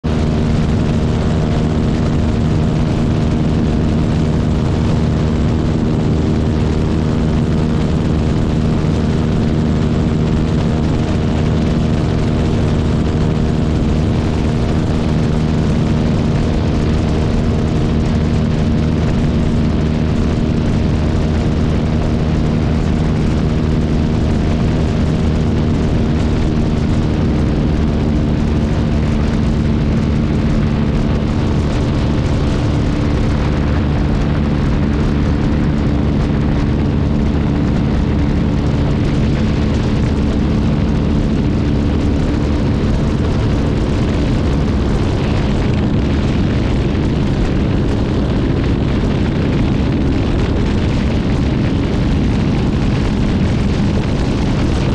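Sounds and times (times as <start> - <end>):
plane propeller engine drone: 0.0 - 54.9
wind rushing over microphone: 0.0 - 54.9.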